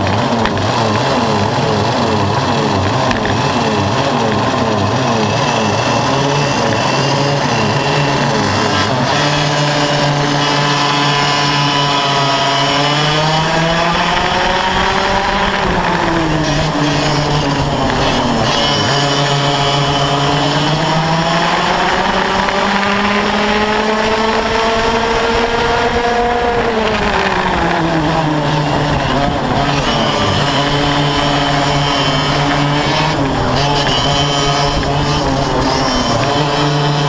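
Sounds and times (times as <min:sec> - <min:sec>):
two-stroke kart engine racing: 0:00.0 - 0:37.0.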